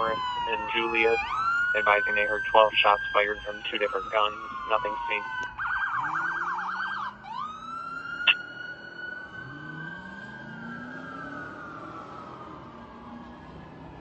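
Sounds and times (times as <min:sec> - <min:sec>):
fire engine siren: 0:00.0 - 0:14.0.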